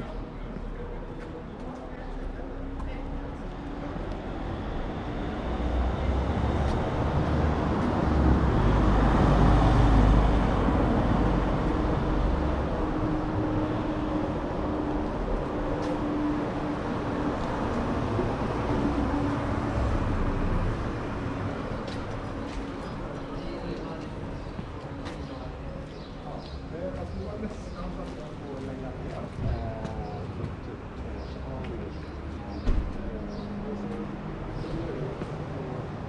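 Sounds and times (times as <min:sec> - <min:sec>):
road noise: 0:00.0 - 0:36.0.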